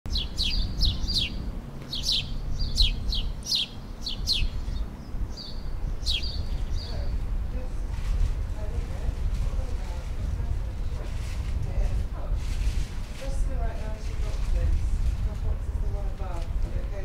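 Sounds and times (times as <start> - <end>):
small birds chirping: 0.1 - 14.6
steady low rumble: 0.1 - 17.0.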